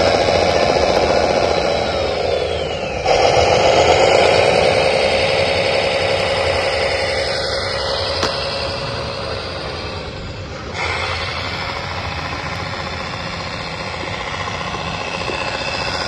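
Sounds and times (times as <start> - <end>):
motor whining: 0.0 - 16.0.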